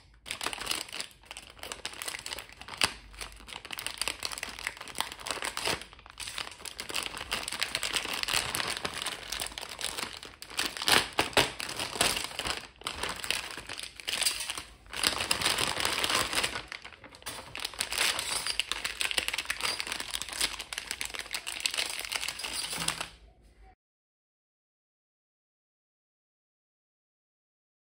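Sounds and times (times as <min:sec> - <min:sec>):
plastic wrappers crinkling: 0:00.1 - 0:23.2.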